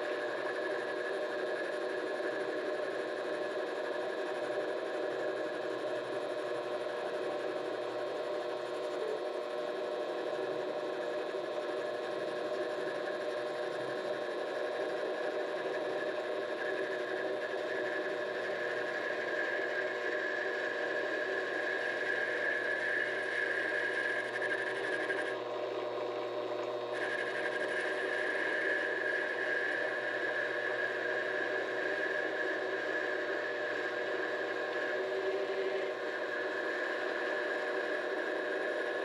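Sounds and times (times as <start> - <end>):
lathe motor whine: 0.0 - 39.0.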